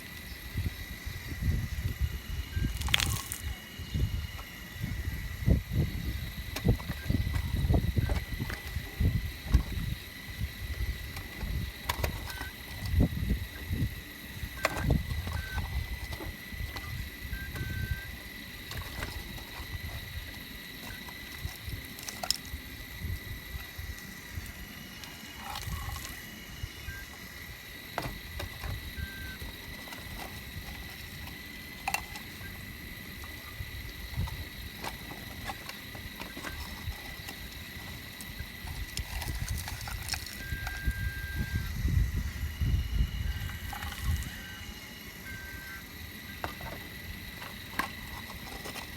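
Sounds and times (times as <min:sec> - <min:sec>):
steady high whine: 0:00.0 - 0:48.9.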